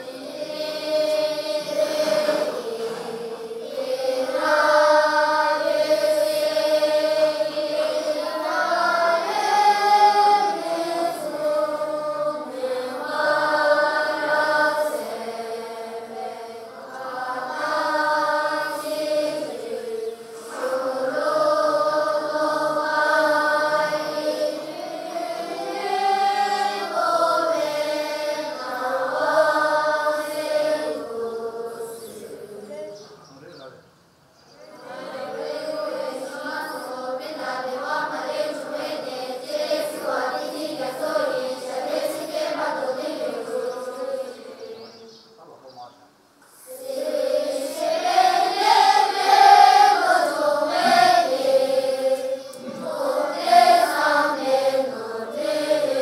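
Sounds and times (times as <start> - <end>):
children chanting a prayer: 0.0 - 33.7, 34.5 - 45.9, 46.5 - 56.0.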